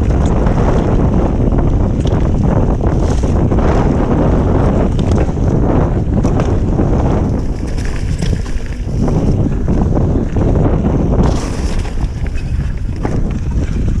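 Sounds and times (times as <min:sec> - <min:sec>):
mountain bike rumbling and rattling: 0:00.0 - 0:14.0
wind buffeting microphone: 0:00.0 - 0:14.0.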